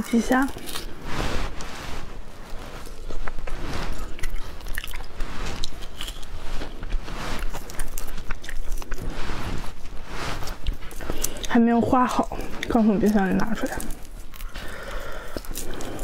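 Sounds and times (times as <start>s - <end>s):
crunchy chewing of shrimp: 0.1s - 16.0s.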